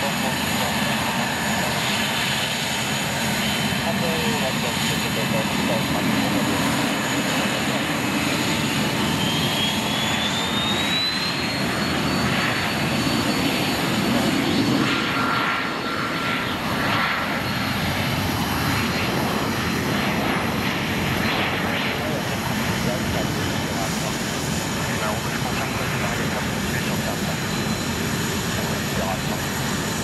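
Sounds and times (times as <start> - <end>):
jet engine whine: 0.0 - 30.0
jet roar: 0.0 - 30.0.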